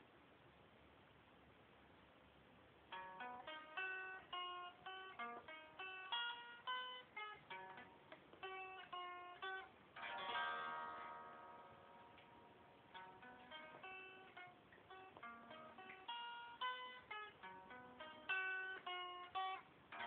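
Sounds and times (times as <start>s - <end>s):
acoustic guitar: 2.9s - 20.0s.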